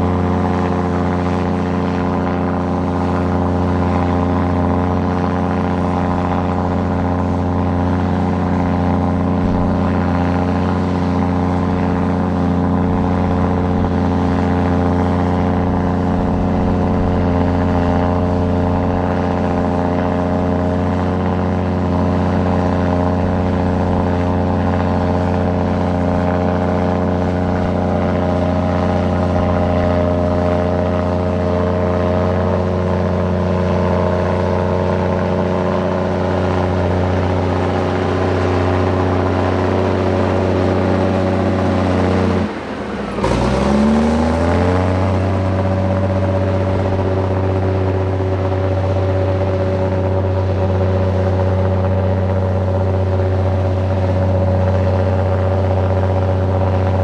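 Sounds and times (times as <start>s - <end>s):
large diesel engine running: 0.0s - 57.0s.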